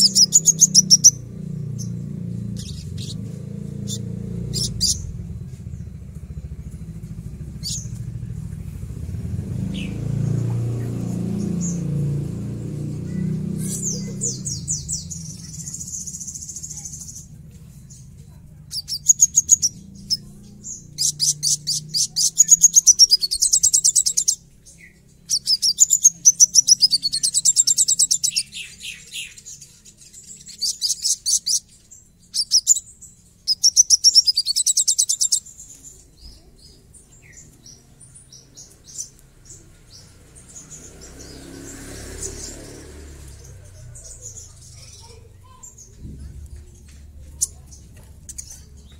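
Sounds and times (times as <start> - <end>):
bird singing high rough trills: 0.0 - 48.9.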